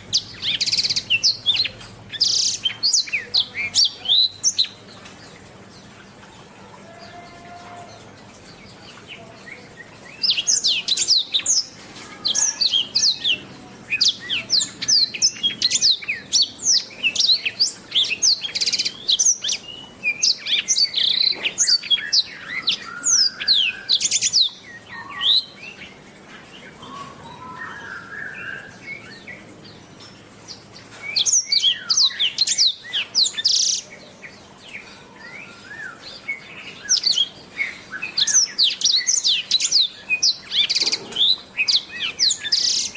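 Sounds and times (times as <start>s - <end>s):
canary singing high twittering song: 0.0s - 42.9s.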